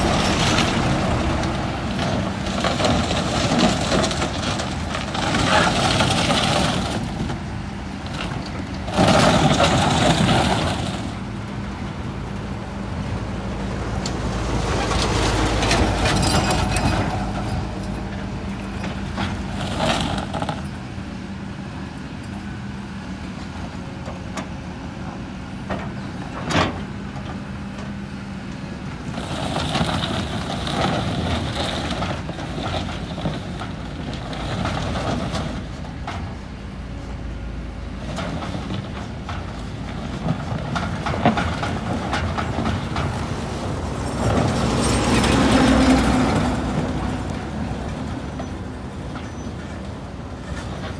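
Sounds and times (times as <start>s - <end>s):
barge scraping and grinding on gravel: 0.0s - 50.9s
excavator diesel engine under load: 0.0s - 50.9s.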